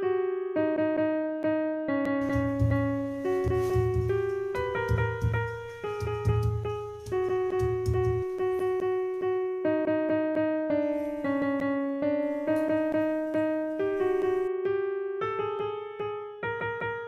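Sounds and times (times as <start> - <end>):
electric keyboard melody: 0.0 - 17.0.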